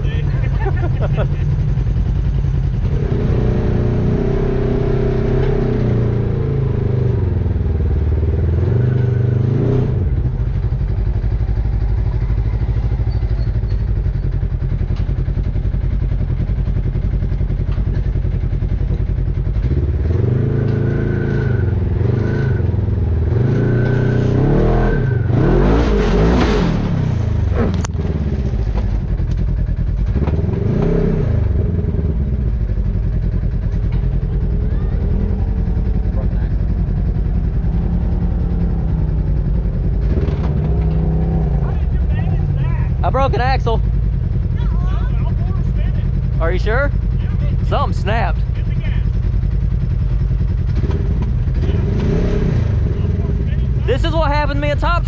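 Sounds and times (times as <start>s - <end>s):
utility vehicle engine revving: 0.0s - 54.9s.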